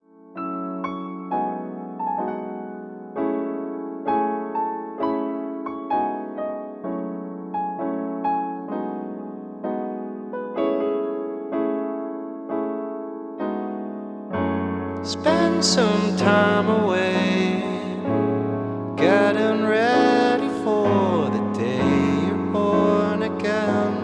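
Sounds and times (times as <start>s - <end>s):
electric piano chords: 0.0s - 24.0s.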